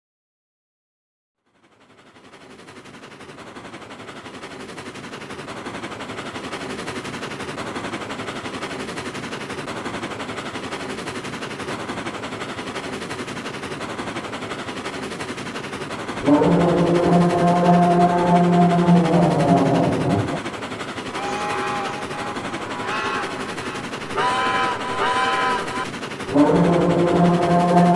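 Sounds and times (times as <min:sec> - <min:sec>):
rapid mechanical rattle: 0:01.4 - 0:27.9.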